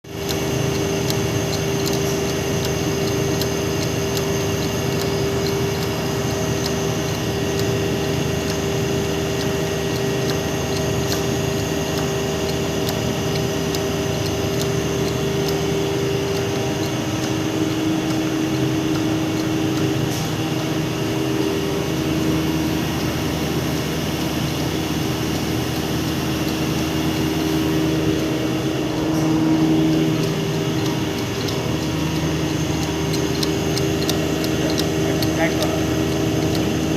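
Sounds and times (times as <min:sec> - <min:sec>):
industrial machinery drone: 0:00.0 - 0:36.9.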